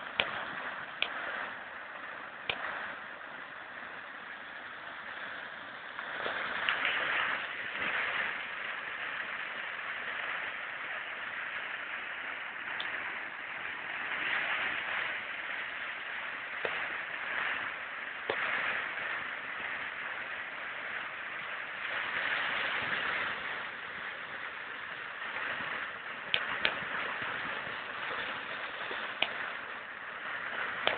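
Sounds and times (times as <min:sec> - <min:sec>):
turbulent river water rushing: 0:00.0 - 0:30.9.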